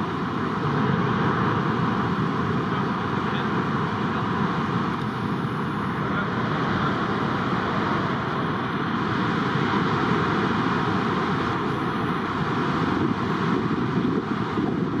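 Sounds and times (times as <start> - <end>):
heavy ocean surf roaring: 0.0 - 15.0
wind noise on microphone: 0.0 - 15.0.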